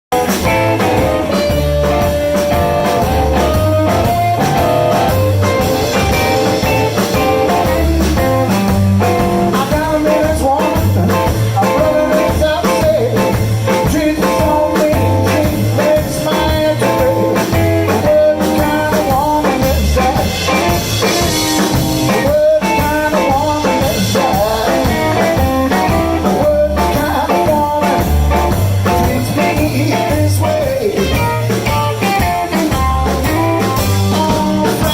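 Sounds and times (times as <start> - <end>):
bass: 0.0 - 34.9
drum kit: 0.0 - 34.9
electric guitar: 0.1 - 34.9.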